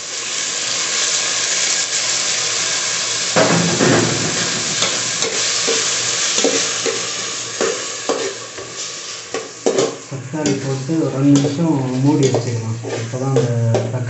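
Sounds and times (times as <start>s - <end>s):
tomatoes sizzling in hot oil: 0.0s - 14.0s.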